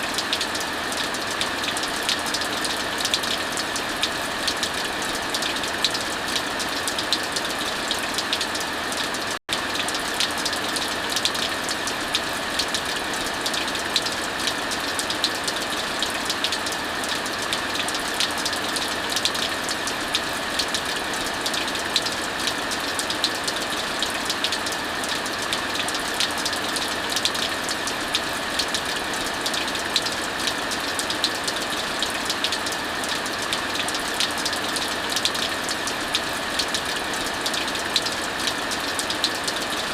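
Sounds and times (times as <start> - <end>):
heavy rain: 0.1 - 39.9.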